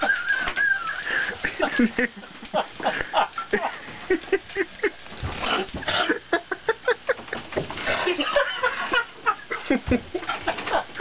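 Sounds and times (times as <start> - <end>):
men laughing heartily: 0.0 - 11.0.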